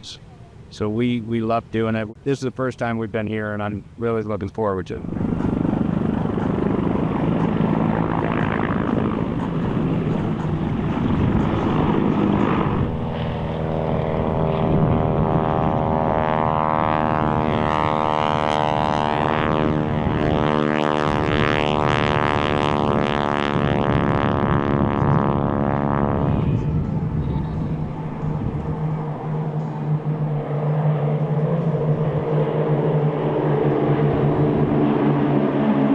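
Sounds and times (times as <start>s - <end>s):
propeller airplane flying overhead: 0.0s - 35.9s.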